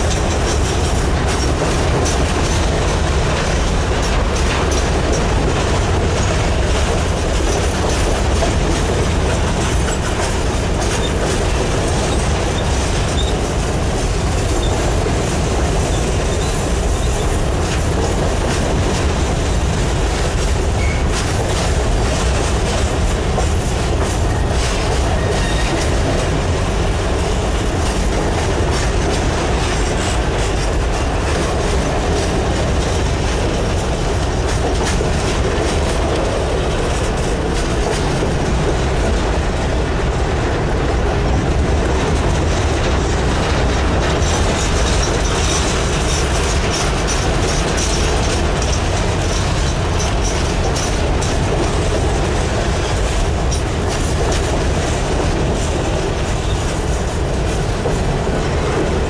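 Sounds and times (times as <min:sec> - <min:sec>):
freight train rumbling past: 0:00.0 - 0:59.0
steel wheels clattering on rails: 0:00.0 - 0:59.0.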